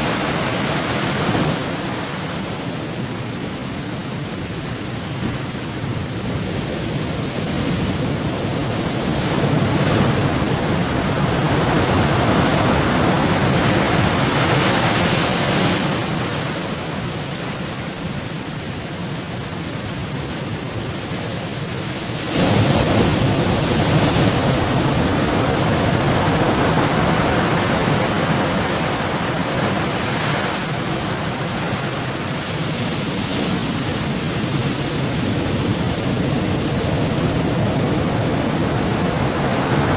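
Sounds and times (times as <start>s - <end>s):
rough sea: 0.0s - 39.9s
strong wind: 0.0s - 39.9s.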